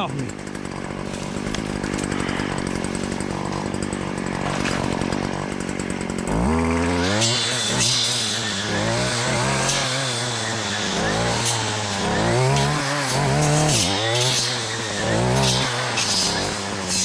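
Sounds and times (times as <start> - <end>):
brush cutter engine: 0.0 - 17.0
blade cutting through weeds: 0.4 - 17.0.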